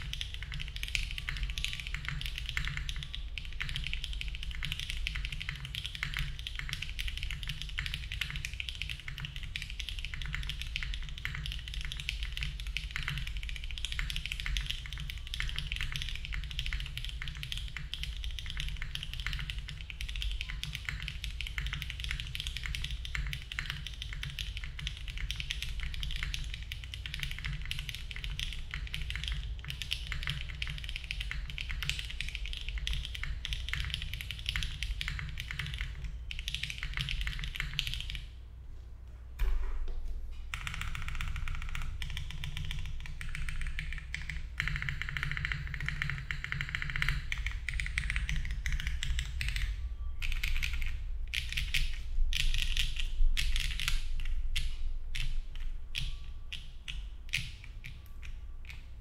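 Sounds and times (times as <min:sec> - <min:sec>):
mechanical keyboard typing: 0:00.0 - 0:38.3, 0:40.5 - 0:58.9.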